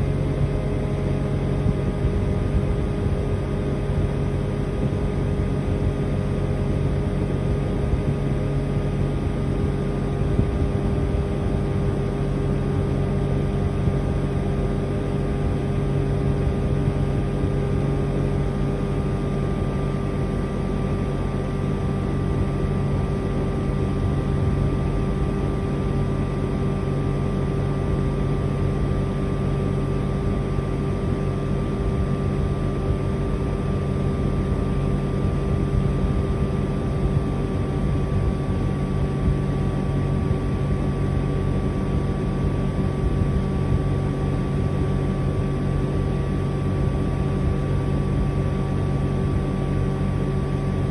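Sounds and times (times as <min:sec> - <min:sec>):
air conditioner compressor hum: 0:00.0 - 0:50.9
fan rushing: 0:00.0 - 0:50.9.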